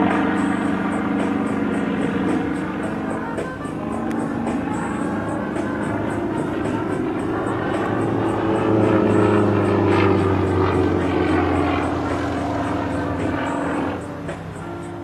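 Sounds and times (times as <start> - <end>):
propeller plane engine in flight: 0.0 - 15.0.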